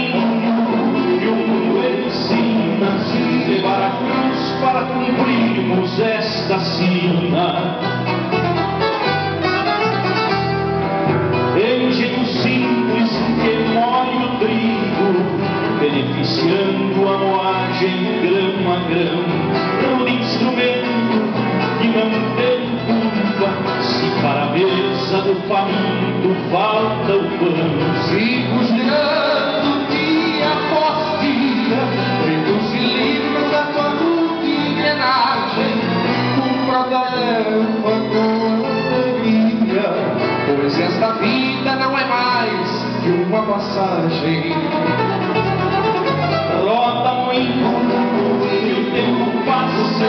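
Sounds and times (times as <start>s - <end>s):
person singing: 0.0s - 10.2s, 11.4s - 50.0s
live band playing: 0.0s - 50.0s.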